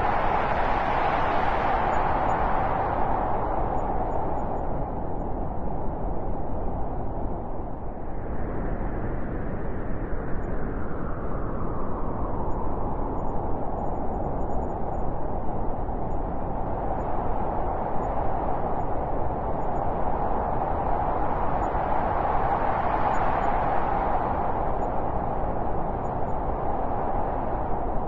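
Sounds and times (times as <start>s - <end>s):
wind blowing: 0.0s - 28.0s.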